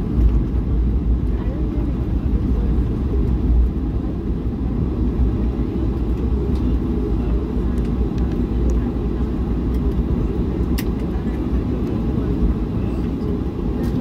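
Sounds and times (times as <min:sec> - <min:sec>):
jet engine rumble in cabin: 0:00.0 - 0:14.0.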